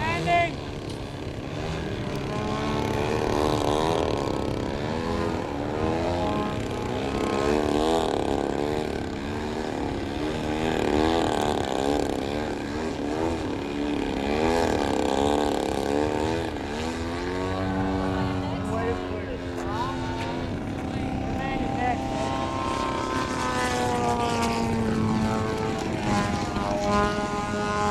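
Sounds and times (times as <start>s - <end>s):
model airplane motor and propeller: 0.0s - 27.9s.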